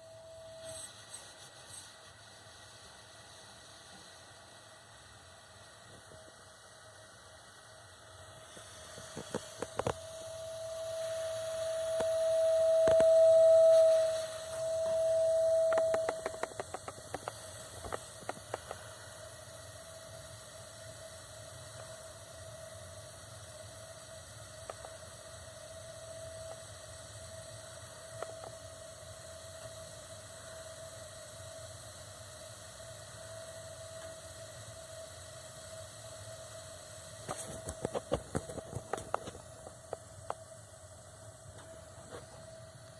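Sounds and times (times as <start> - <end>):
water heater droning: 0.0 - 42.9.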